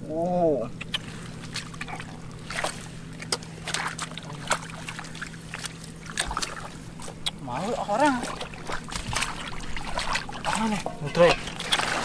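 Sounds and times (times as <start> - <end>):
steady low hum: 0.0 - 12.0
shallow water splashing: 0.8 - 12.0.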